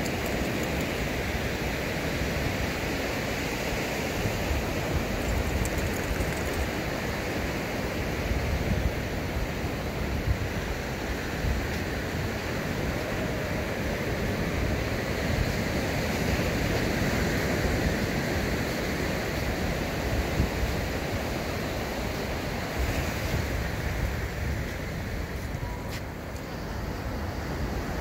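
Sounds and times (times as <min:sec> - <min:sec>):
ocean surf on sandy beach: 0:00.0 - 0:28.0.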